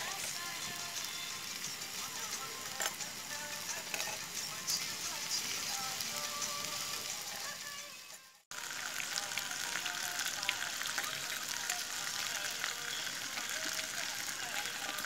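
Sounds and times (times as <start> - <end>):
meat sizzling on hot stone: 0.0 - 15.0.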